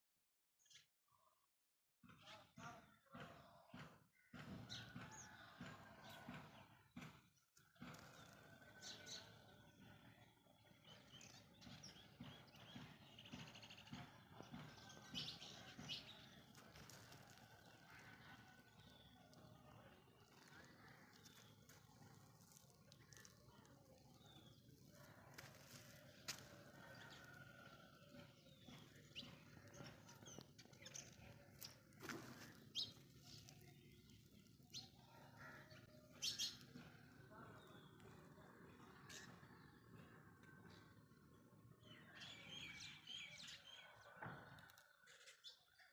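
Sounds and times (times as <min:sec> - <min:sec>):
faint birds chirping: 0:04.2 - 0:44.0.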